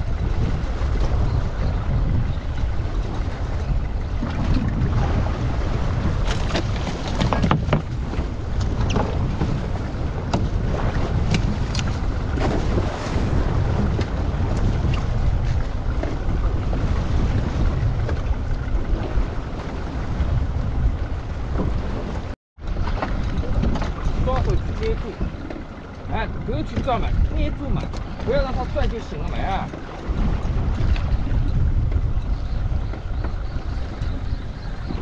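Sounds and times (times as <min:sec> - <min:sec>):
sea water around boat: 0:00.0 - 0:35.0
wind buffeting microphone: 0:00.0 - 0:35.0.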